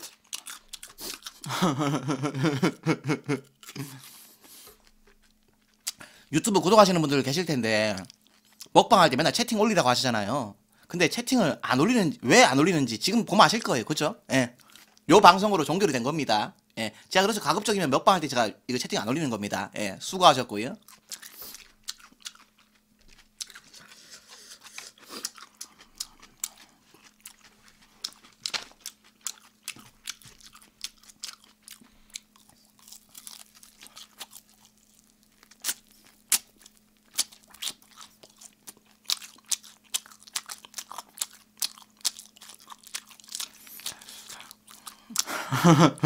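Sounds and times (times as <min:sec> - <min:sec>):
crunching and chewing fried chicken: 0:00.0 - 0:09.5, 0:13.5 - 0:15.8, 0:20.6 - 0:45.8.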